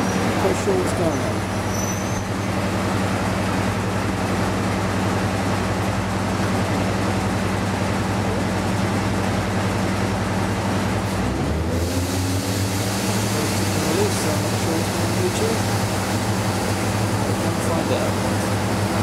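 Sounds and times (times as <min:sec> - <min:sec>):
diesel locomotive engines droning: 0:00.0 - 0:19.0
rail noise: 0:00.0 - 0:19.0.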